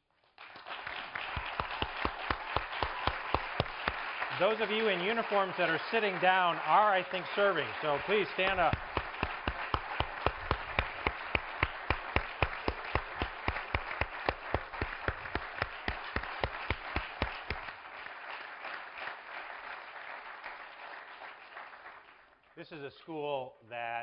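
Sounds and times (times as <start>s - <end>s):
audience applauding: 0.0s - 22.4s
close hand claps: 0.0s - 22.4s.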